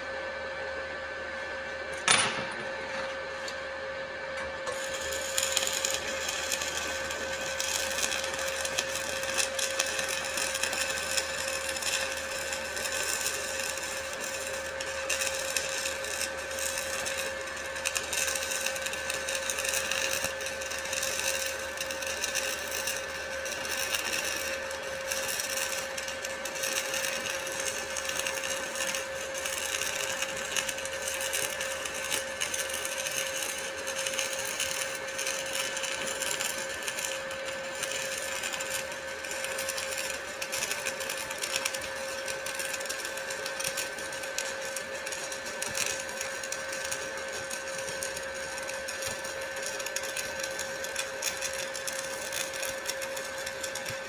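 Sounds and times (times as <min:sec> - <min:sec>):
steady hum: 0:00.0 - 0:54.0
welding arc crackling: 0:04.6 - 0:54.0
welding arc crack: 0:04.7 - 0:54.0.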